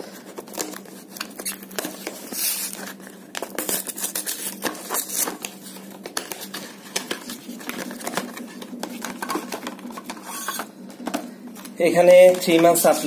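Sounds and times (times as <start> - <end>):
paperboard carton rustling and crinkling: 0.0 - 10.7.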